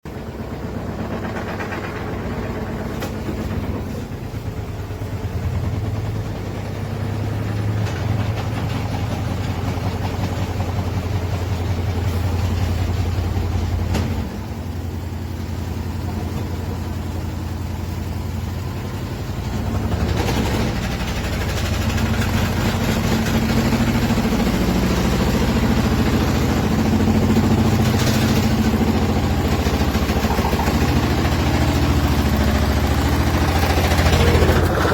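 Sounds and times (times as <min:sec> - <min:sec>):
washing machine motor hum: 0:00.1 - 0:34.9.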